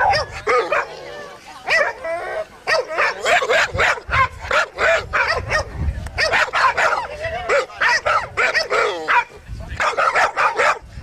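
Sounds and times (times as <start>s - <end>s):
dogs barking rapidly: 0.0s - 11.0s.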